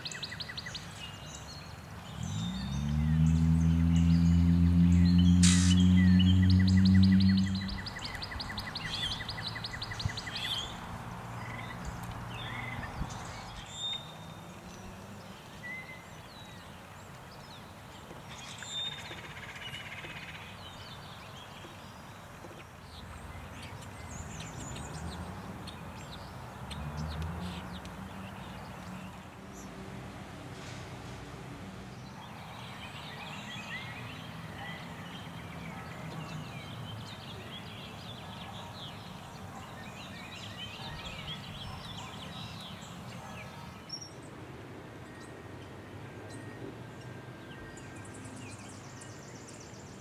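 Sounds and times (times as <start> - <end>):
birds chirping and trilling: 0.0 - 29.8, 31.9 - 44.3.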